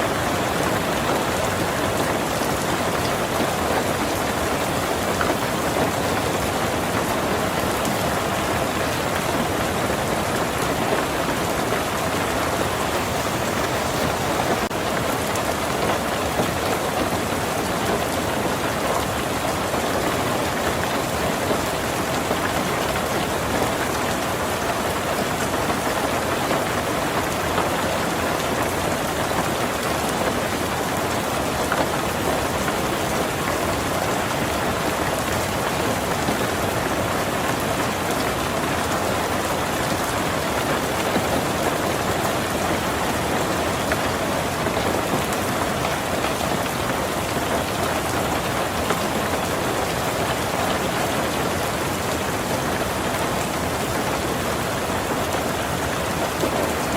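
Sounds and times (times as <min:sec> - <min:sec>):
heavy rain on a tin roof: 0:00.0 - 0:56.9.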